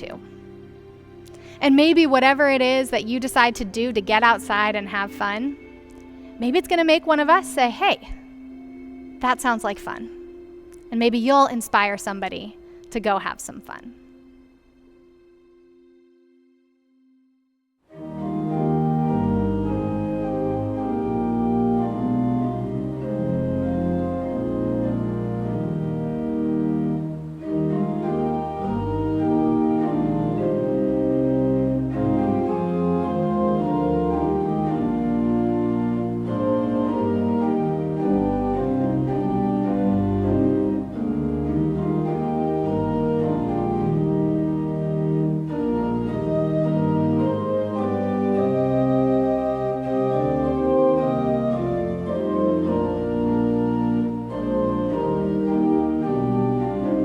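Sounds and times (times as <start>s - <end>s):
organ chords: 0.0s - 17.2s, 17.9s - 57.0s.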